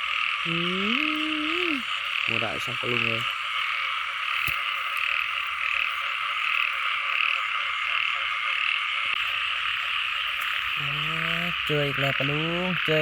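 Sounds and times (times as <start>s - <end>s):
chorus of frogs calling: 0.0s - 13.0s.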